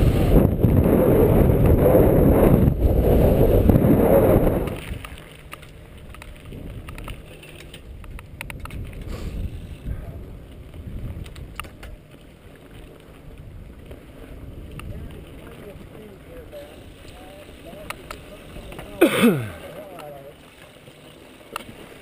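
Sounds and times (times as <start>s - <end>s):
wind buffeting microphone: 0.0s - 19.3s
bike rolling on dirt trail: 0.0s - 22.0s.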